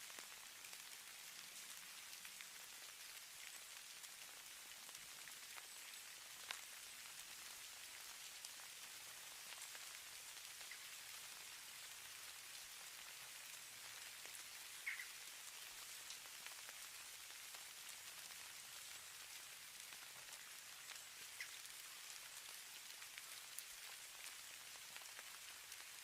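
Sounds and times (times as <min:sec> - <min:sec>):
hiss of falling snow: 0:00.0 - 0:26.0.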